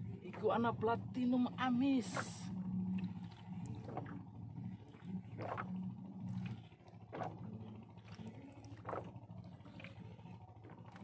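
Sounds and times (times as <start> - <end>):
steady low drone: 0.0 - 11.0.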